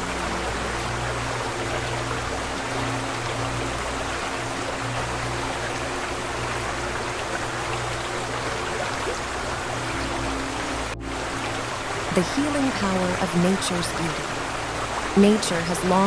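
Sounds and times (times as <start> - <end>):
soft music of low held tones: 0.0 - 16.0.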